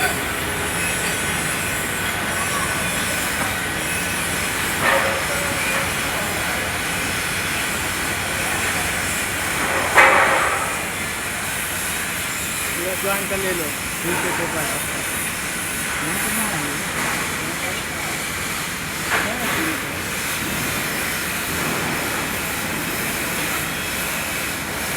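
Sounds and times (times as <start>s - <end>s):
welding arc hissing and crackling: 0.0s - 24.9s.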